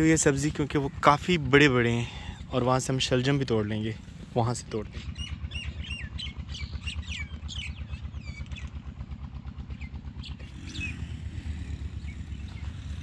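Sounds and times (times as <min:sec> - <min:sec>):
birds chirping: 0:00.0 - 0:13.0
engine thumping steadily: 0:00.0 - 0:13.0.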